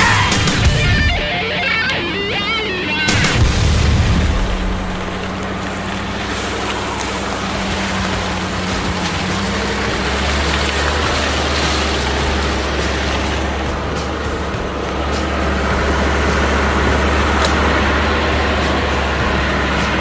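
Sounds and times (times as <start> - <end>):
rushing noise: 0.0 - 20.0
vehicle engine droning: 0.0 - 20.0.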